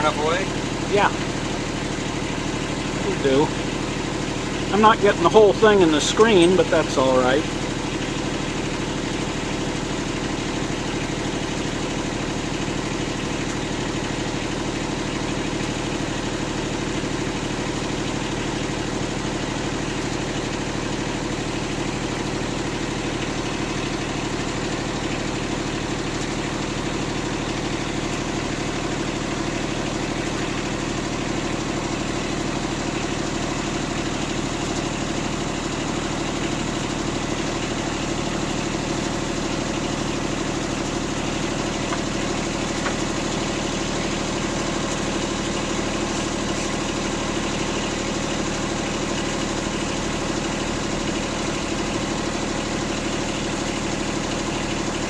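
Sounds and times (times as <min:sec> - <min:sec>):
small boat motor droning: 0:00.0 - 0:55.0.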